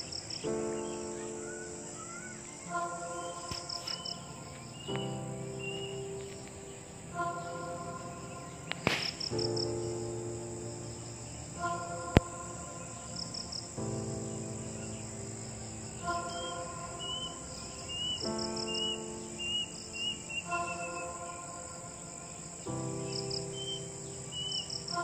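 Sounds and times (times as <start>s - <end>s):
cricket chirping: 0.0s - 25.0s
high insect buzz: 0.0s - 25.0s
soft chords music: 0.0s - 25.0s.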